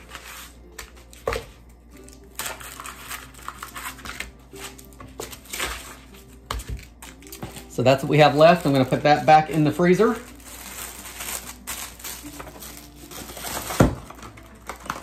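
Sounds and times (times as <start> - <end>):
soft background music: 0.0 - 15.0
wax paper rustling: 2.4 - 15.0.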